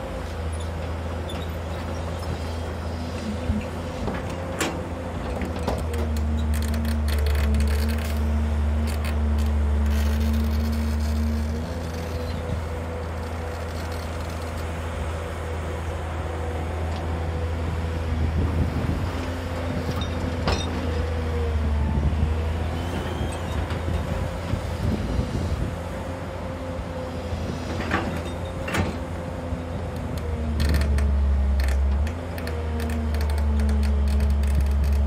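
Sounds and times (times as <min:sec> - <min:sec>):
excavator diesel engine: 0:00.0 - 0:35.0.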